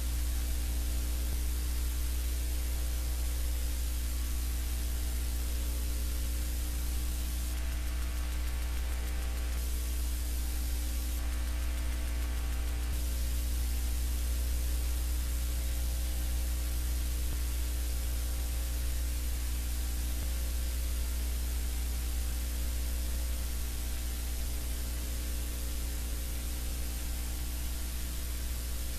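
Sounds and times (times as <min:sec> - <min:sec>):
low electrical hum: 0:00.0 - 0:28.9
static hiss: 0:00.0 - 0:28.9.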